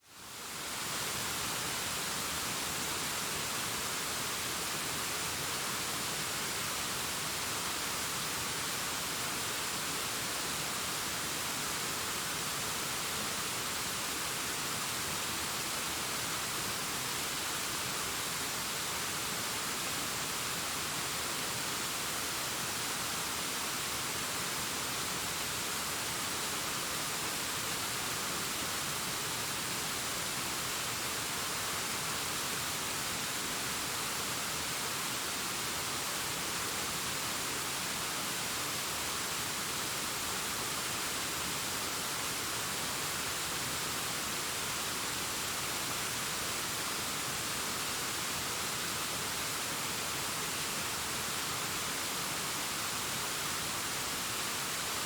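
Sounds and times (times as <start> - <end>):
distant waterfall rushing: 0.4 - 55.0.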